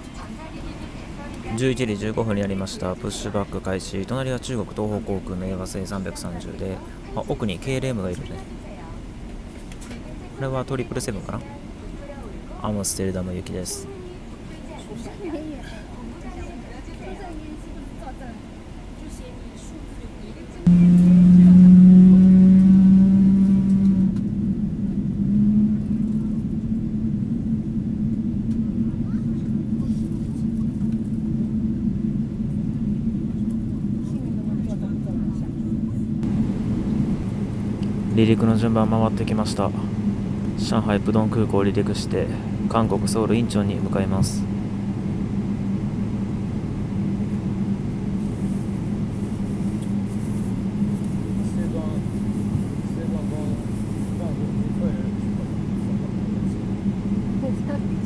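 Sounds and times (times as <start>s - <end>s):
faint engine hum: 0.0s - 58.0s
low rumble inside aircraft cabin: 0.0s - 58.0s.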